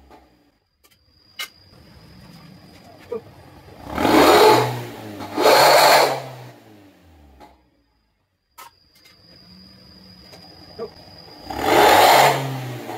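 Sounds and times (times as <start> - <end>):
car exhaust idling and revving: 0.0 - 12.9.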